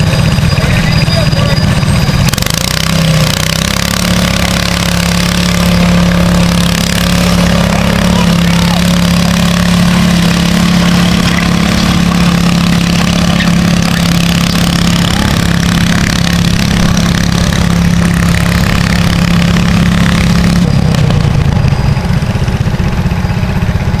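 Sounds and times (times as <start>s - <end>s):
tractor engine running hard: 0.0s - 24.0s.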